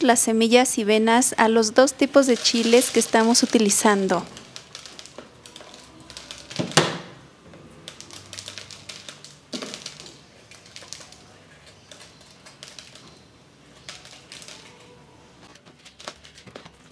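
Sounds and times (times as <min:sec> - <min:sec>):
dried chile skins crackling: 0:00.0 - 0:16.9
seeds ticking into a bowl: 0:01.5 - 0:07.2, 0:07.8 - 0:16.8.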